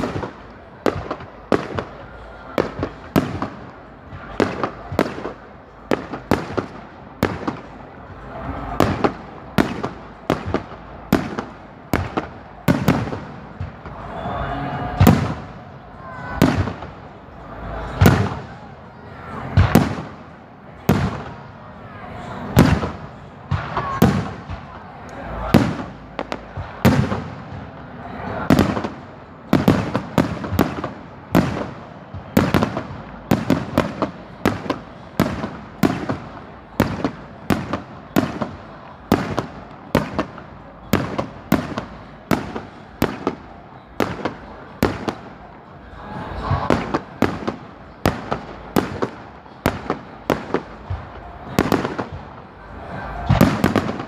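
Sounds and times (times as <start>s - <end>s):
fireworks bursting with bangs: 0.0s - 21.7s, 22.3s - 54.0s.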